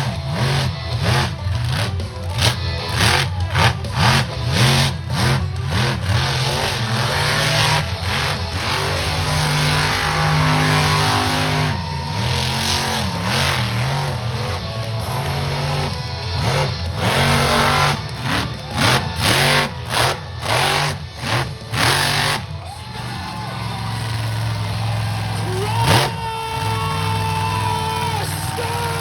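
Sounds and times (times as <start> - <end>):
monster truck engine revving: 0.0 - 29.0.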